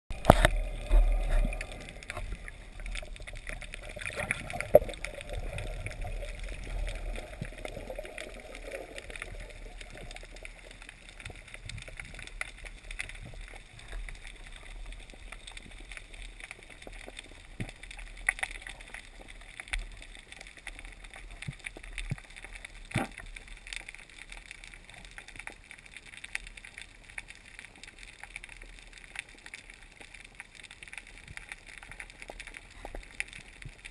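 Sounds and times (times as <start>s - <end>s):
steady underwater hiss: 0.1s - 33.9s
underwater gurgling: 0.1s - 33.9s.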